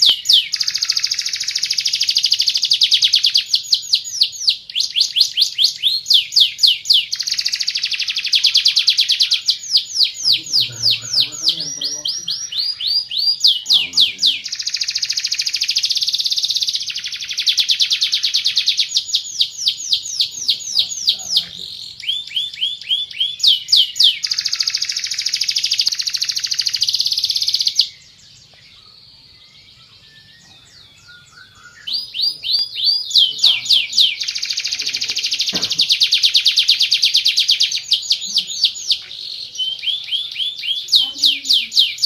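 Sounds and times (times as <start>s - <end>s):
canary singing trills: 0.0s - 42.0s.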